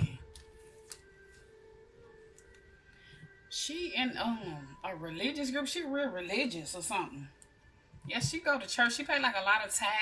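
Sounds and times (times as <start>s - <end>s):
faint ambient music: 0.0s - 10.0s.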